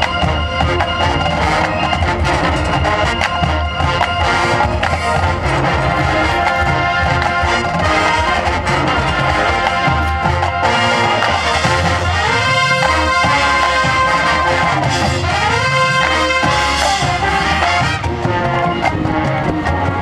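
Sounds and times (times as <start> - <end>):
drums: 0.0 - 20.0
marching band brass chords: 0.0 - 20.0.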